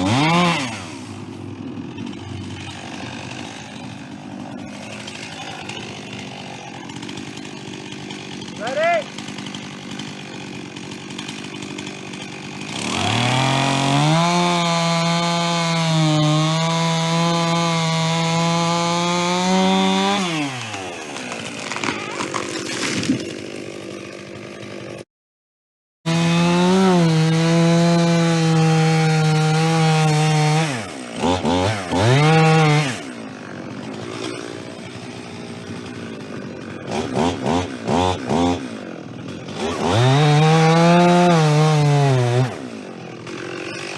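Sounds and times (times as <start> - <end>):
chainsaw idling: 0.0 - 25.0, 26.1 - 43.9
chainsaw revving and cutting wood: 0.0 - 25.1, 26.0 - 43.9.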